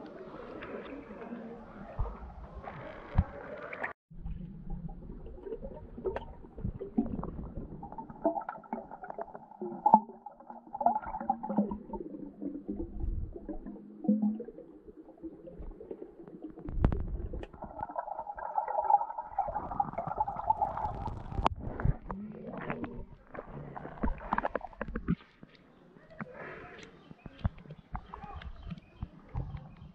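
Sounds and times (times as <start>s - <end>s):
underwater bubbling and gurgling: 0.0s - 26.6s.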